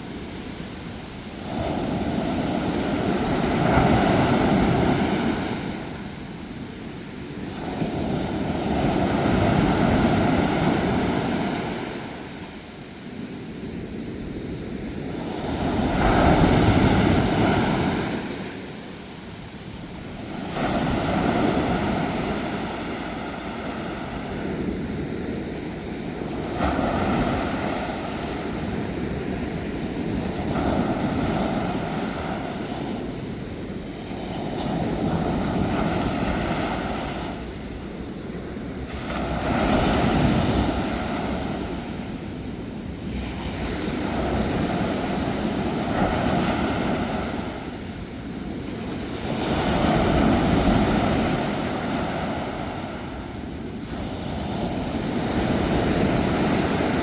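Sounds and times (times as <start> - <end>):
sea waves breaking: 0.0 - 57.0.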